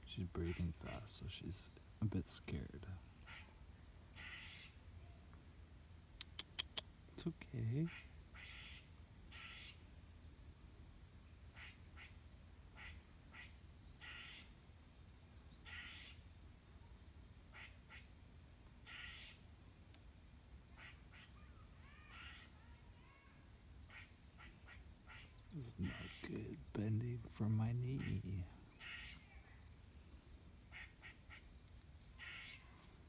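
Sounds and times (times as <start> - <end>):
high insect drone: 0.0 - 6.2, 6.8 - 33.0.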